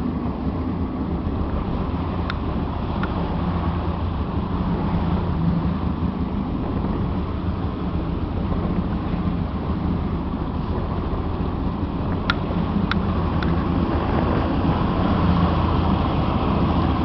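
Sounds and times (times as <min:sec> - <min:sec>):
motorboat engine running: 0:00.0 - 0:17.0
wind and water rushing: 0:00.0 - 0:17.0.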